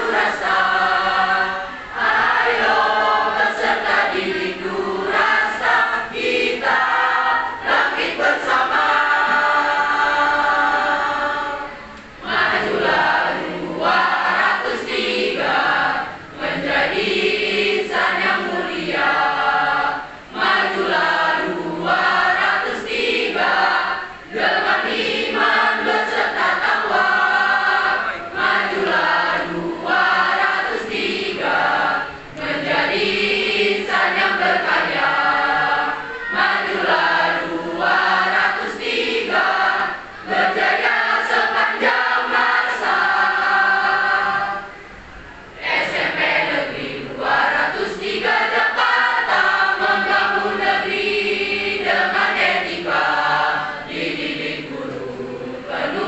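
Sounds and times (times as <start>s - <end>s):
choir singing a march song: 0.0s - 44.8s, 45.5s - 56.0s.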